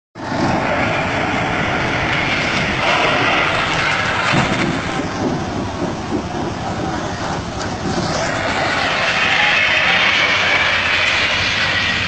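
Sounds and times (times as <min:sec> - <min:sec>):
vehicle engine and rattle: 0:00.2 - 0:12.0.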